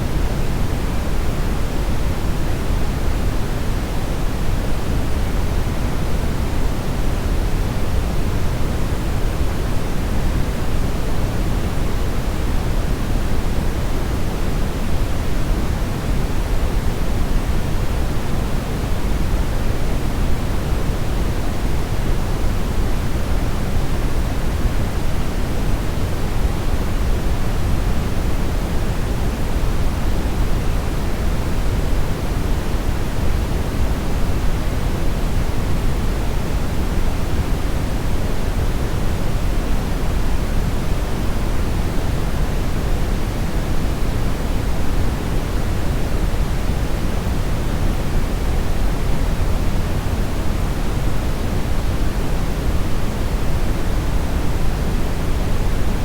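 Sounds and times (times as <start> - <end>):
brown noise hiss: 0.0 - 56.0.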